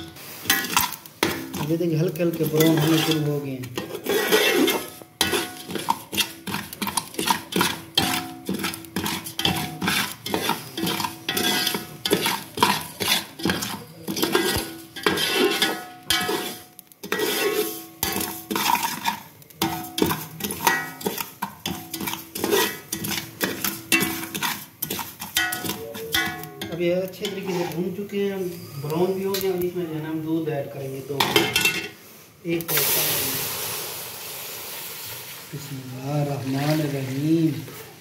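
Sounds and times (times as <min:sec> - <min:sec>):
metal ladle scraping pot: 0:00.0 - 0:29.7, 0:30.8 - 0:32.0.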